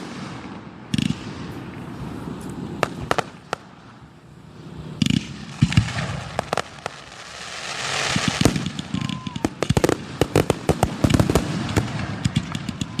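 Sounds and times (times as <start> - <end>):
fireworks bursting with sharp bangs: 0.0 - 13.0
fireworks crackling: 0.0 - 13.0.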